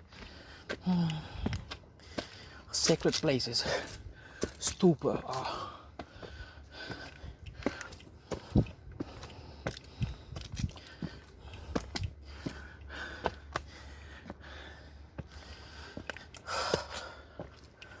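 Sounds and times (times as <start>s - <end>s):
person breathing: 0.1s - 2.7s, 3.6s - 4.6s, 5.4s - 18.0s.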